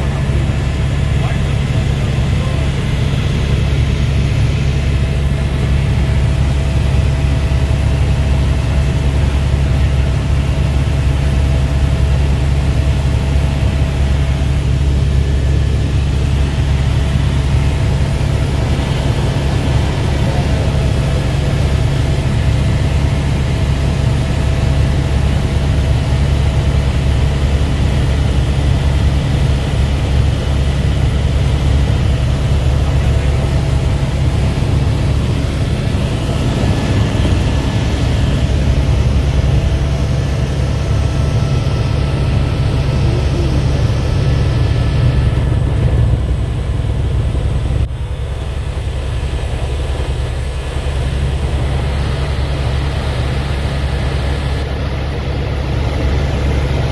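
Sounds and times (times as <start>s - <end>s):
faint turbine whine: 0.0s - 56.9s
helicopter cabin drone: 0.0s - 56.9s.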